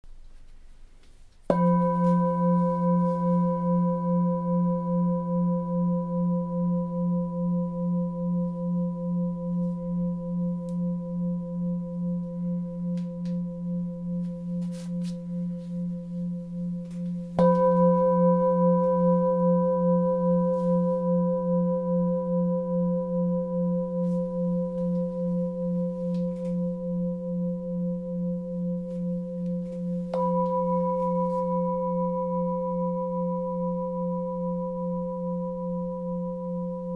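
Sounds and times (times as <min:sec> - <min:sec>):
singing bowl ringing: 0:01.5 - 0:36.9.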